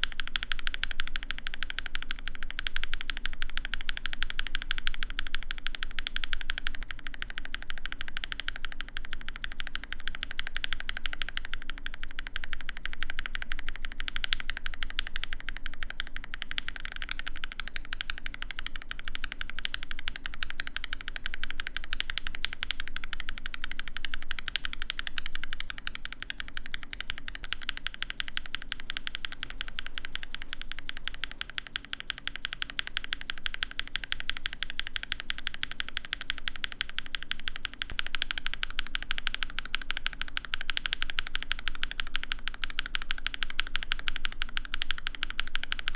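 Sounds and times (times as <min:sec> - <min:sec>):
fast mechanical keyboard typing: 0:00.0 - 0:45.9.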